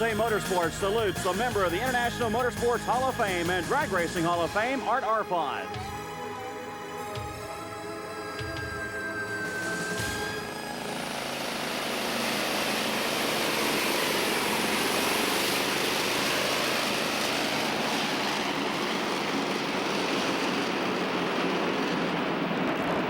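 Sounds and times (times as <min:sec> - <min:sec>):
jet engine roaring: 0:00.0 - 0:23.0.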